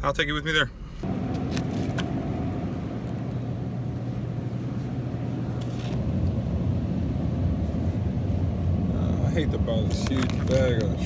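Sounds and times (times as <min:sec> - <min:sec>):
car engine and road rumble: 0:00.1 - 0:11.0.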